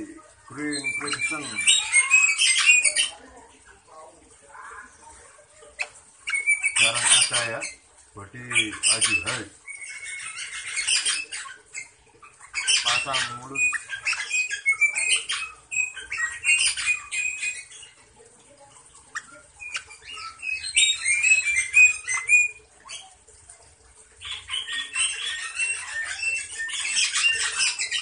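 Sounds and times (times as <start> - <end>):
parakeets chirping: 0.0 - 3.8, 4.4 - 28.0.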